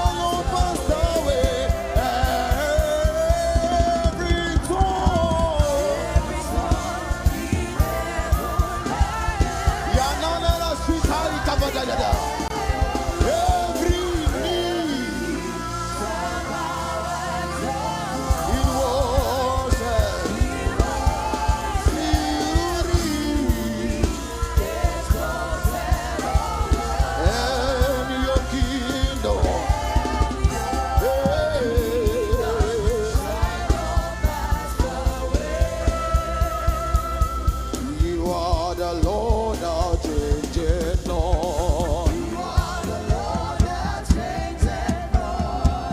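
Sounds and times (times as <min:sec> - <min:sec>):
band with steady drum beat: 0:00.0 - 0:45.9.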